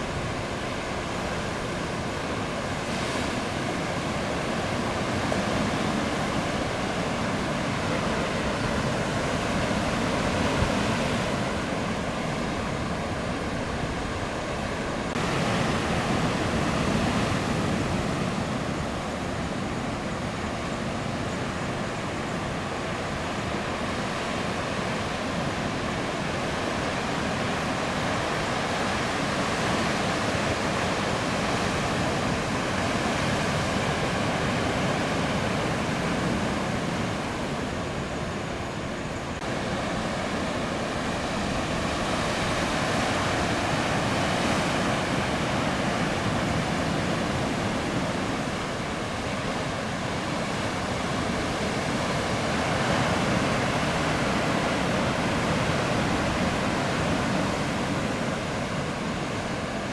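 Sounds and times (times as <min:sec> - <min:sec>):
waves breaking: 0:00.0 - 0:59.9.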